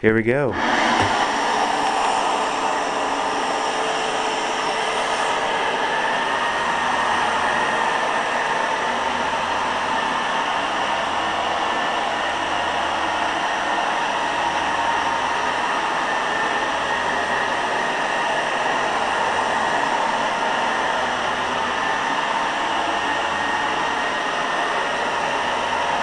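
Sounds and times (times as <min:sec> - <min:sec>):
carpet cleaner motor whirring: 0:00.5 - 0:26.0.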